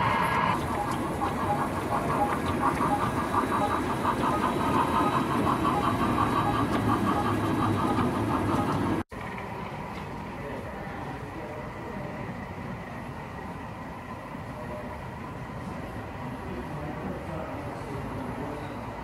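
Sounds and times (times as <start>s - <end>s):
model train rumbling and clattering: 0.0s - 19.0s.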